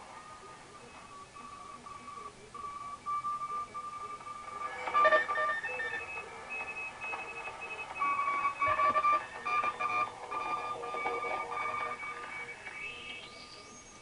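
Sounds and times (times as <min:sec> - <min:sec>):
morse code beeping: 0:00.8 - 0:13.8.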